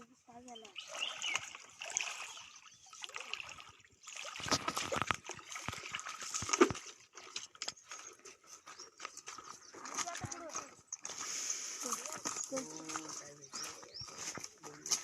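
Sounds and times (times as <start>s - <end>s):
water splashing and sloshing: 0.2s - 15.0s.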